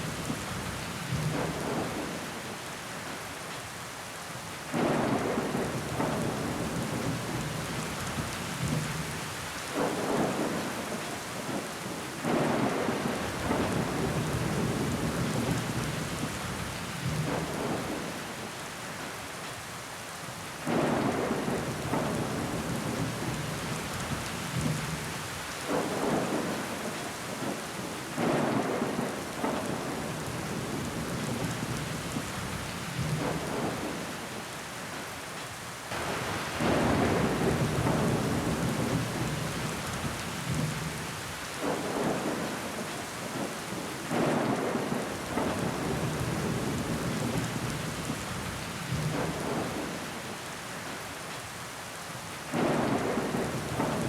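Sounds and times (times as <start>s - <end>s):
rain against a window: 0.0s - 54.0s.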